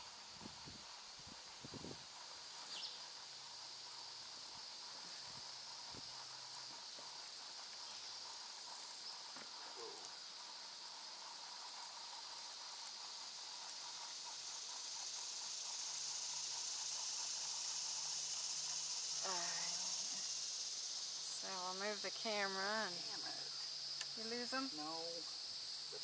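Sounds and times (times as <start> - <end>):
insects humming: 0.0 - 26.0.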